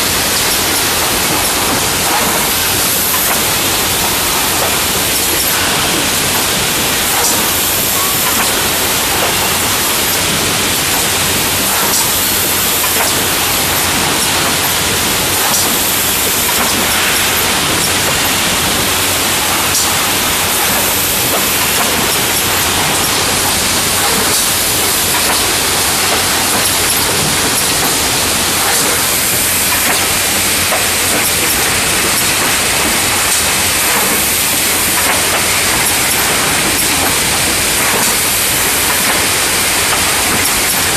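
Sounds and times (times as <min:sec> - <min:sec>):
loud dense machine hiss: 0:00.0 - 0:40.9.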